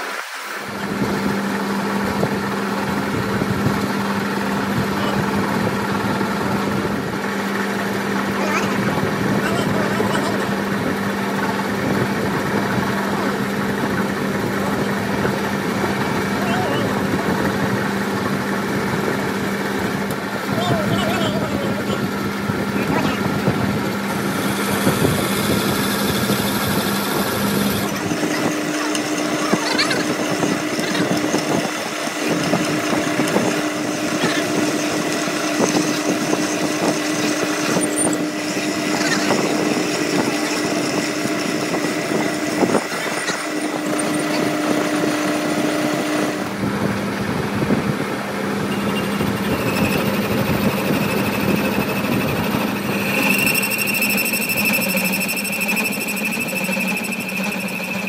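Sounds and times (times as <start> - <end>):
workshop machine humming: 0.0 - 58.0.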